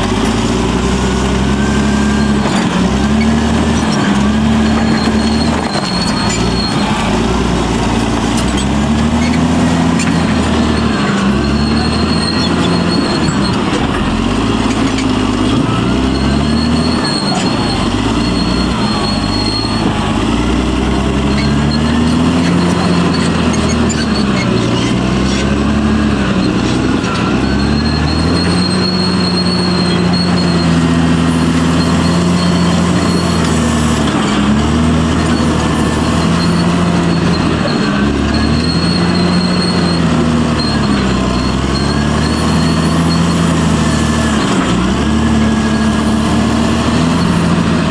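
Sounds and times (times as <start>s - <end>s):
bulldozer diesel engine under load: 0.0s - 47.9s.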